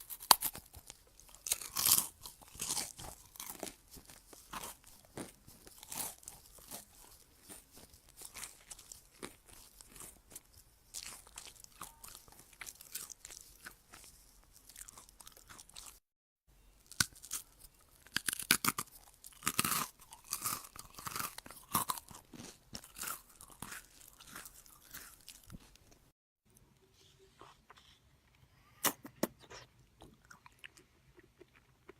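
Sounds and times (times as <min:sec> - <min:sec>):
crunchy chewing: 0:00.0 - 0:16.0, 0:16.8 - 0:26.1, 0:28.8 - 0:31.9.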